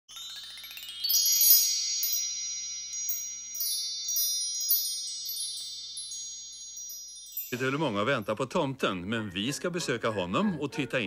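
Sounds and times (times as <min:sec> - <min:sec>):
bell-like chimes: 0:00.1 - 0:09.1.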